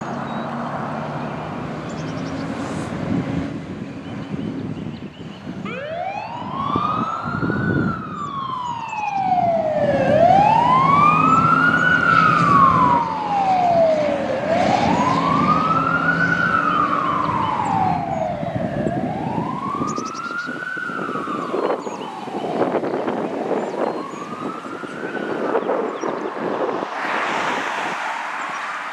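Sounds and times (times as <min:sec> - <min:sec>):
fire engine siren wailing: 0:00.6 - 0:28.5.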